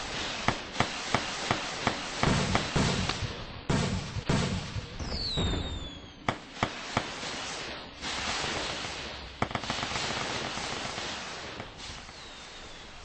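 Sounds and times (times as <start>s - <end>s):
firework bangs: 0.0s - 13.0s
fireworks crackling: 0.0s - 13.0s
whistling firework: 0.0s - 13.0s.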